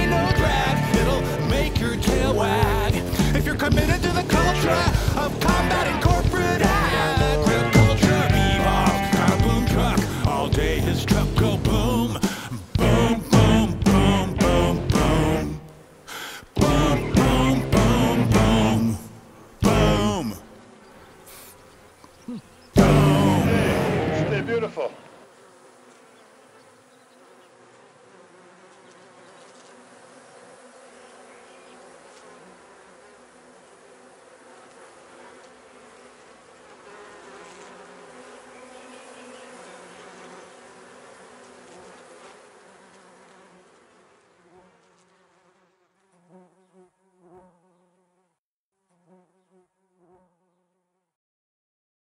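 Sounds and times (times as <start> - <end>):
honeybees buzzing: 0.0 - 50.7.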